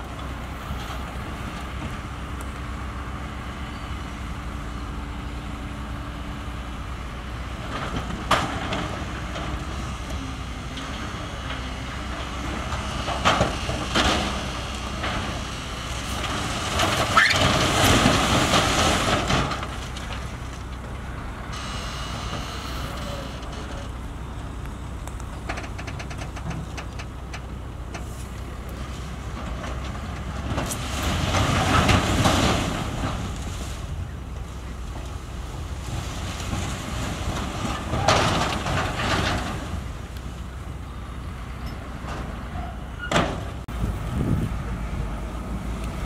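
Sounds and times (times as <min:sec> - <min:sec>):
heavy diesel machinery running: 0:00.0 - 0:46.0.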